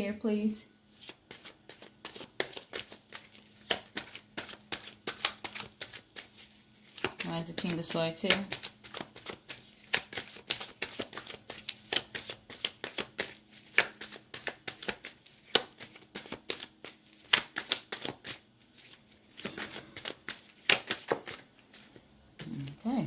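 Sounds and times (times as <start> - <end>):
cards being shuffled: 1.0 - 22.8.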